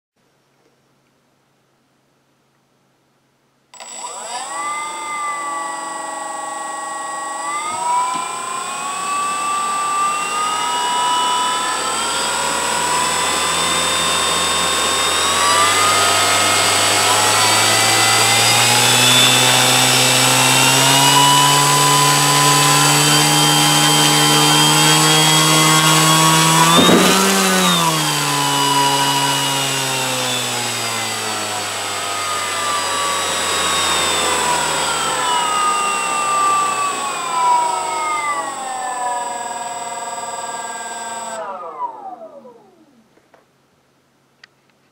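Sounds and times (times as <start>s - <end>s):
electric motor and propeller whining: 3.8s - 43.0s.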